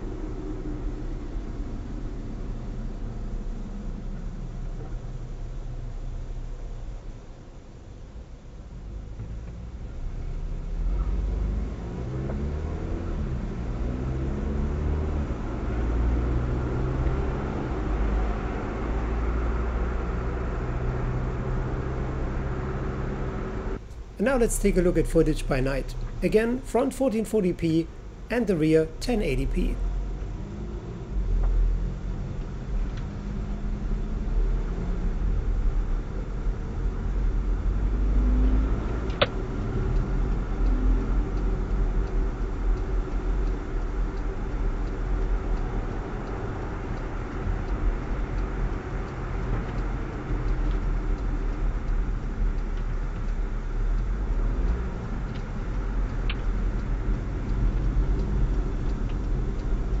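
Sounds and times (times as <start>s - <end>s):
road and engine rumble in car: 0.0s - 26.2s, 29.2s - 60.0s.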